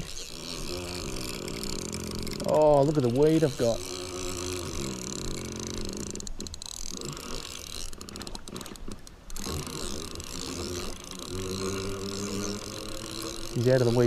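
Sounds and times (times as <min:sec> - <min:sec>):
fishing reel gears clicking: 0:00.0 - 0:14.0.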